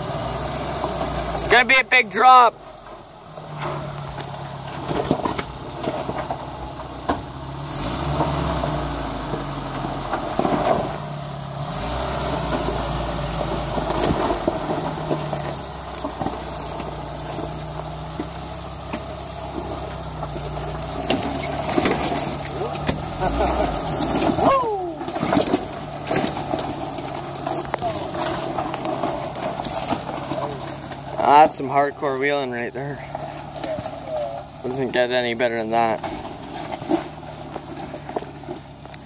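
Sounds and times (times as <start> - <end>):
engine running at low revs: 0.0 - 39.0
rocks crunching under tyres: 0.0 - 39.0.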